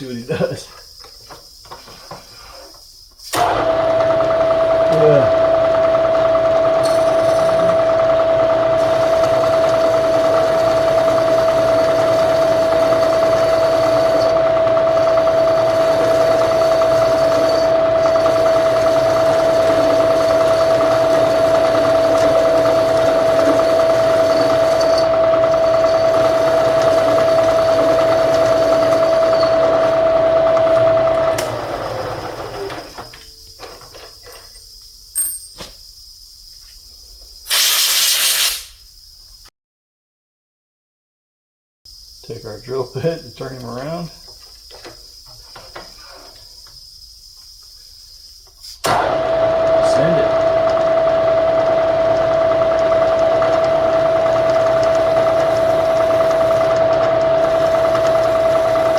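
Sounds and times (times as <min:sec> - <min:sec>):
milling machine spindle whine: 0:03.3 - 0:34.9, 0:42.2 - 0:58.9.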